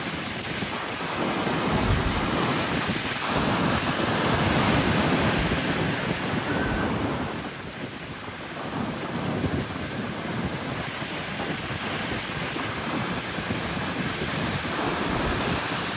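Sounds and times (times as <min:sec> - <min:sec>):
wind buffeting microphone: 0:00.0 - 0:15.9
ocean waves breaking: 0:00.1 - 0:15.9.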